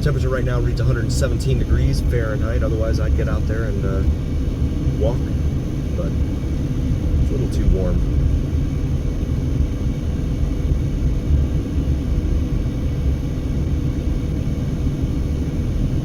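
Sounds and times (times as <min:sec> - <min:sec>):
gusting wind buffeting car: 0:00.0 - 0:16.0
road and engine noise in car: 0:00.0 - 0:16.0.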